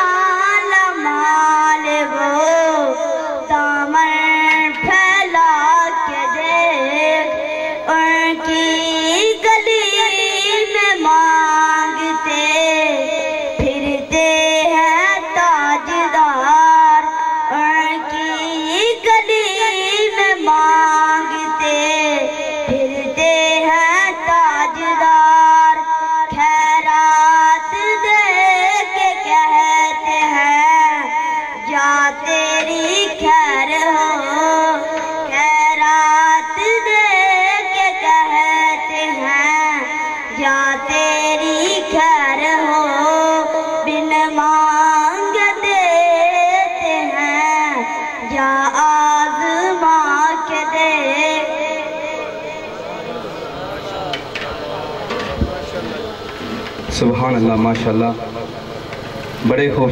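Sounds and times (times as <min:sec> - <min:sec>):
boy singing into a microphone: 0:00.0 - 0:52.9.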